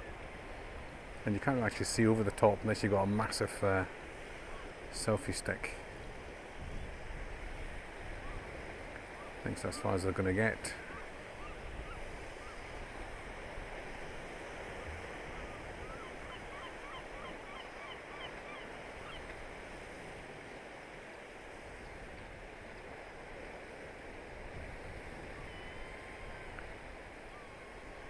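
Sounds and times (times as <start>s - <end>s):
surf: 0.0s - 28.0s
wind: 0.0s - 28.0s.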